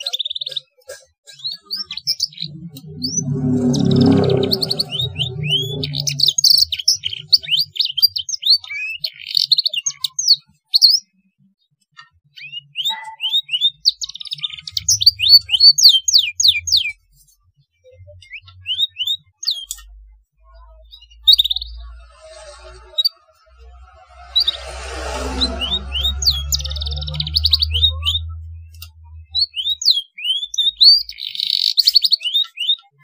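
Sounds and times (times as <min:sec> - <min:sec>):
canary singing chirps: 0:00.0 - 0:11.1, 0:12.2 - 0:17.1, 0:17.9 - 0:33.0.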